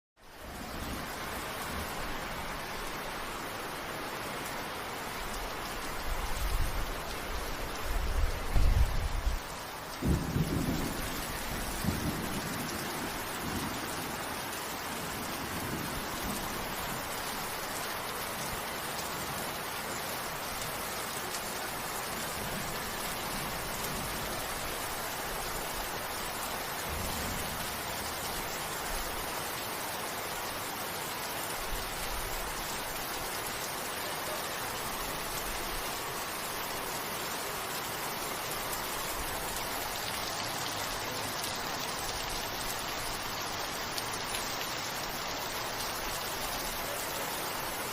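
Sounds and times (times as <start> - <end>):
steady rain hiss: 0.2 - 47.9.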